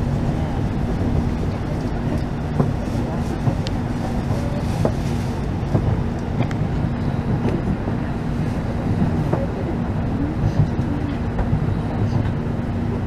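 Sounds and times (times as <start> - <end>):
constant hum: 0.0 - 13.0
train running gear rumble: 0.0 - 13.0.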